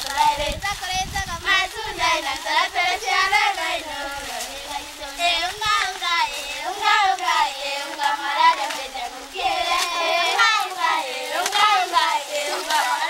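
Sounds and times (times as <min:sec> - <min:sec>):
girls singing together: 0:00.0 - 0:13.0.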